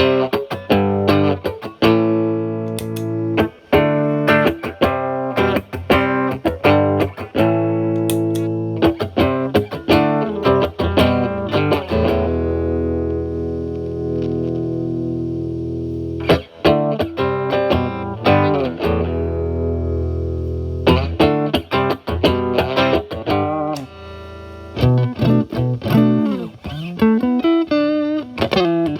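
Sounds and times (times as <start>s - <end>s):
overdriven electric guitar: 0.0s - 28.9s.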